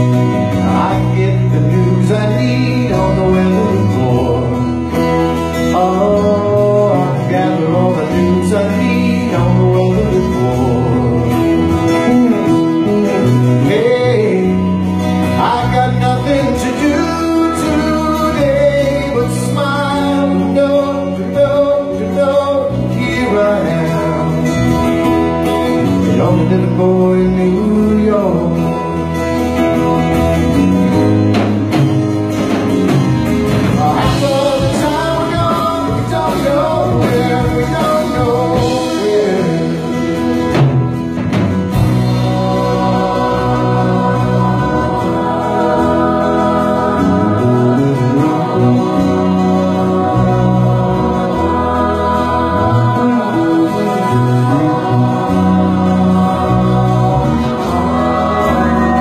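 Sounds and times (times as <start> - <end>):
man singing lead: 0.0 - 30.0, 33.5 - 59.0
acoustic guitar: 0.0 - 59.0
live band playing: 0.0 - 59.0.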